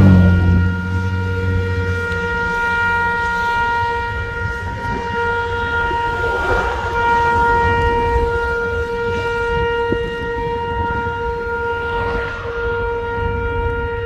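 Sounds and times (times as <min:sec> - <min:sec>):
horn blaring: 0:00.0 - 0:14.0
low rumble: 0:00.0 - 0:14.0.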